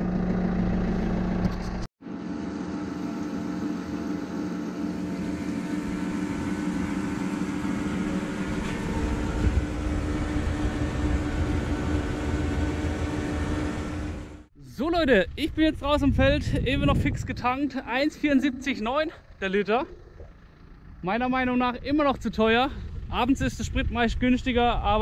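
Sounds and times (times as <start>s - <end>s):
tractor engine running: 0.0s - 14.5s, 16.6s - 25.0s.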